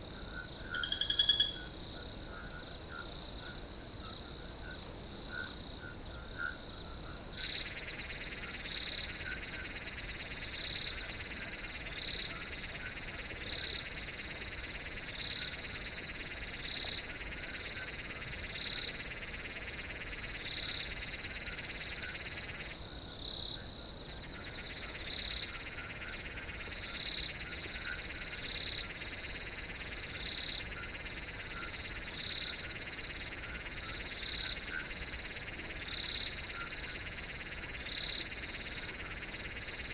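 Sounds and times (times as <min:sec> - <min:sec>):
cricket chirping: 0:00.0 - 0:39.9
crickets trilling: 0:00.0 - 0:39.9.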